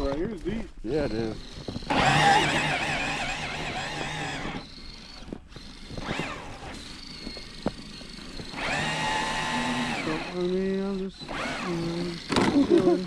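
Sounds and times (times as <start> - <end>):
electric toy car motor whining: 0.9 - 13.0.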